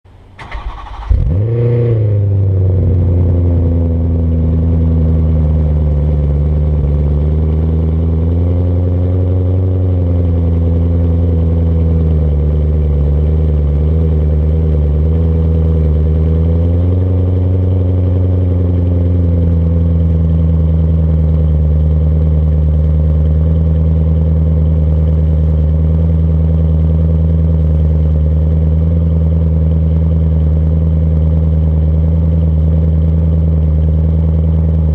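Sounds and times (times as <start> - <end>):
car engine cold start and idling: 0.1 - 34.9.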